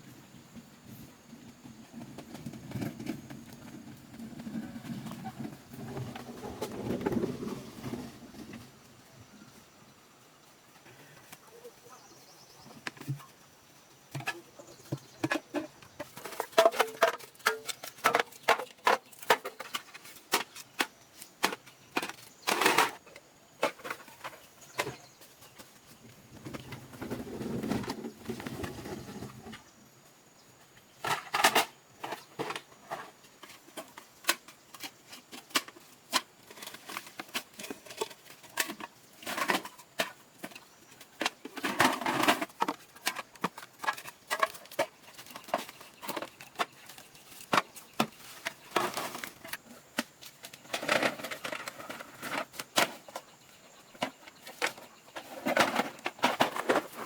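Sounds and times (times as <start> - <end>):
scraping or rustling: 1.9 - 8.8, 14.2 - 29.7, 31.0 - 57.0.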